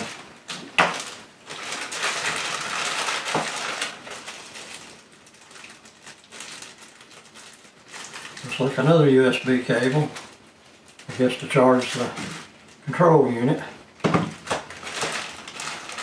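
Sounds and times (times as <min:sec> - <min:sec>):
plastic bag crinkling: 0:00.0 - 0:13.0, 0:14.0 - 0:16.0.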